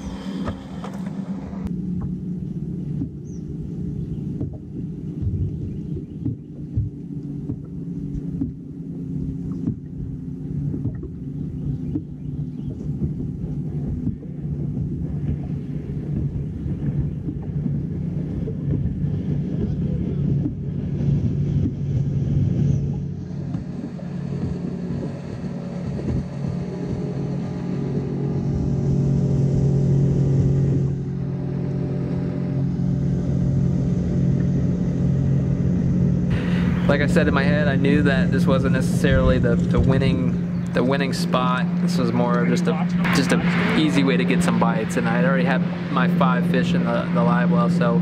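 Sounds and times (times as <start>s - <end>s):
outboard motor running: 0.0s - 48.0s
wind rushing over microphone: 9.5s - 48.0s.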